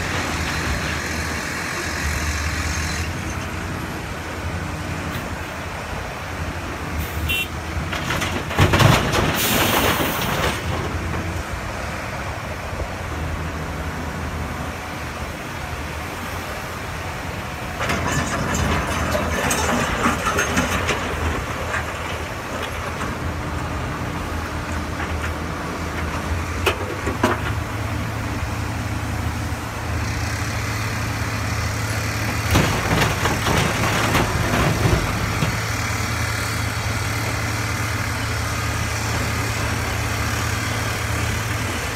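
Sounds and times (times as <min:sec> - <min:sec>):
dump truck diesel engine: 0:00.0 - 0:41.9
excavator diesel engine: 0:00.0 - 0:41.9.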